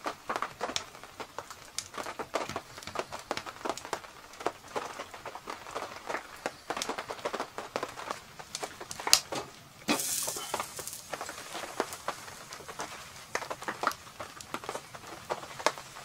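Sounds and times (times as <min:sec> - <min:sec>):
faint rain hiss: 0:00.0 - 0:16.0
rain drops tapping on canvas: 0:00.0 - 0:16.0.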